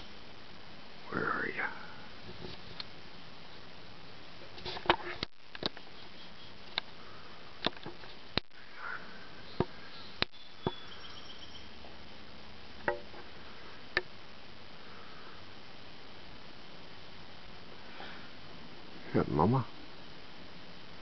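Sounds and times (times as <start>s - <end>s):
low hiss: 0.0s - 21.0s.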